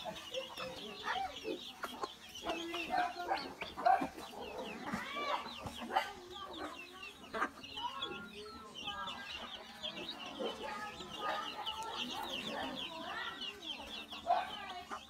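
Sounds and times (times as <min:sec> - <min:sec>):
chicks peeping: 0:00.0 - 0:15.0
hens clucking: 0:00.0 - 0:15.0.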